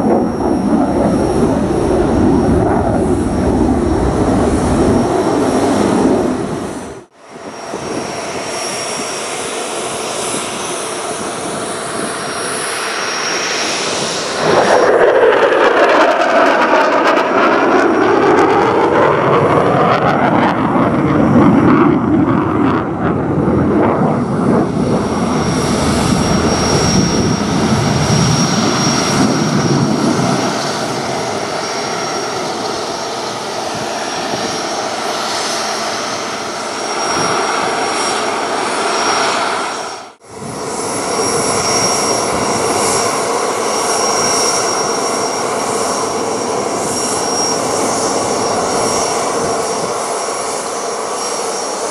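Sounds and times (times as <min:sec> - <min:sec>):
jet engine rumble and whine: 0:00.0 - 0:51.9
jet passing overhead: 0:00.0 - 0:51.9.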